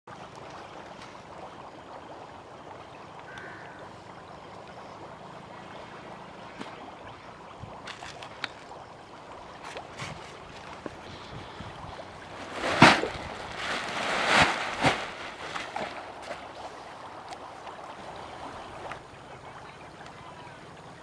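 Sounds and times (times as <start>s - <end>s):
outdoor background noise: 0.1s - 21.0s.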